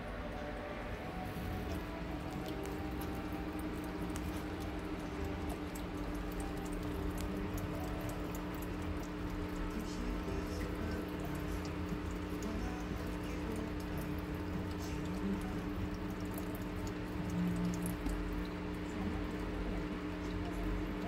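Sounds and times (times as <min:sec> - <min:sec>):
aquarium filter hum: 0:00.0 - 0:21.0
cat lapping water: 0:00.0 - 0:21.0.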